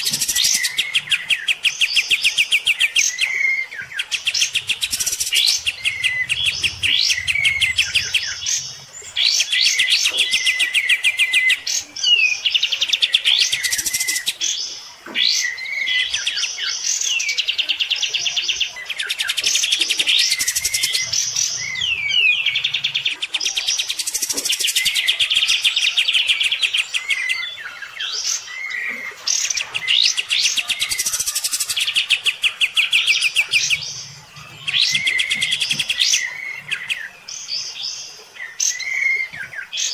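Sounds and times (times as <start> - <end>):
bulbul singing rattling trills: 0.0 - 39.9.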